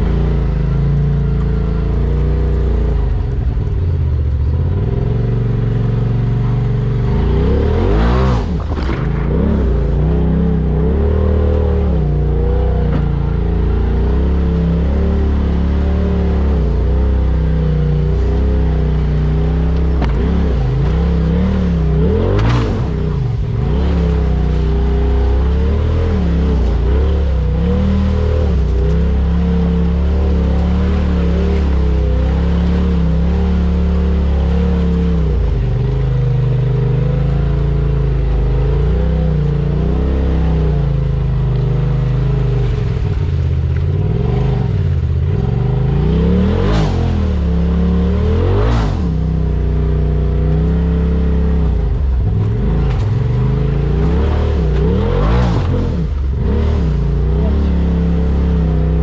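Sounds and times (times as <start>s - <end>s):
utility vehicle engine revving: 0.0s - 59.0s.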